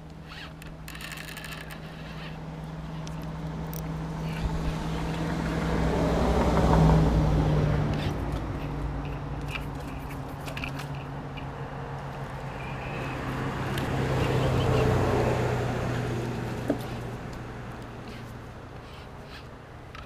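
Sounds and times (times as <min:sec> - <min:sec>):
vehicle engine passing by: 0:00.3 - 0:19.5.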